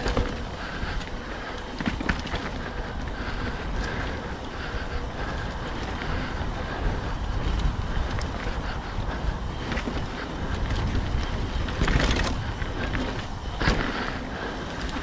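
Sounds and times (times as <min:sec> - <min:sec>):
bike rumbling on dirt trail: 0:00.0 - 0:15.0
wind buffeting microphone: 0:00.0 - 0:15.0.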